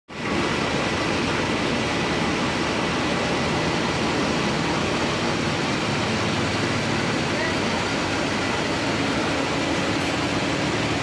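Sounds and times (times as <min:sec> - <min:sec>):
large fan blowing: 0:00.1 - 0:11.0.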